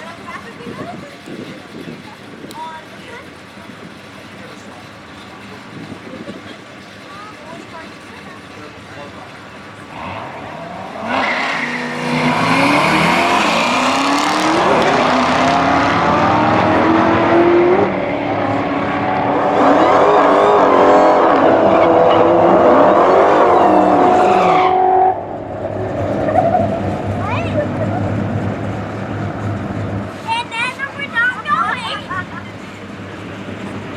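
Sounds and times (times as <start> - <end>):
racing car engines revving: 0.0 - 33.9.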